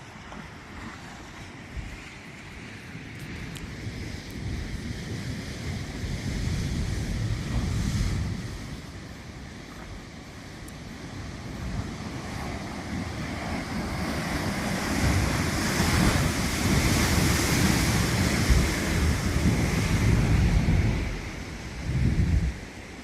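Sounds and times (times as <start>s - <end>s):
sea surf: 0.0s - 23.0s
wind buffeting microphone: 0.0s - 23.0s.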